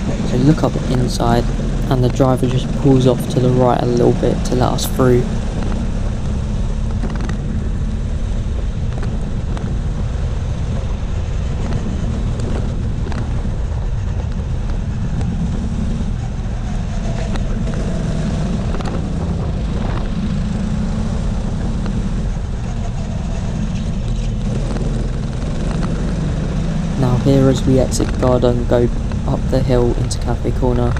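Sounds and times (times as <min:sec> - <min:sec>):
go-kart engine rumble: 0:00.0 - 0:30.9
wind on microphone: 0:00.0 - 0:30.9.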